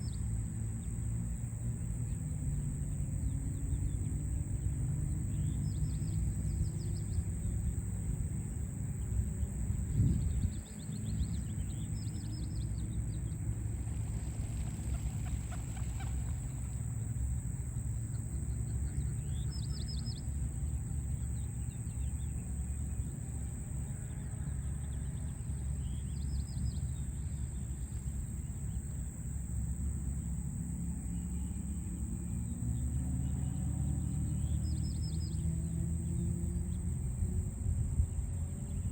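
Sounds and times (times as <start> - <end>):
city traffic hum: 0.0 - 38.9.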